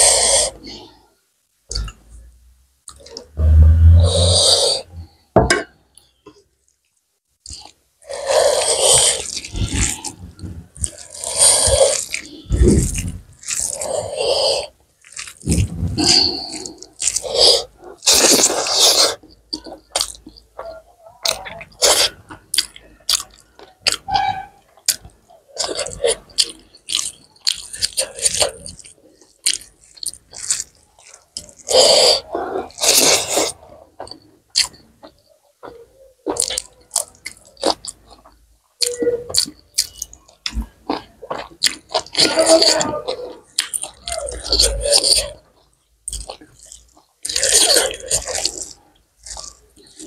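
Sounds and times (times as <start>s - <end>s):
person chewing food: 1.7s - 50.0s.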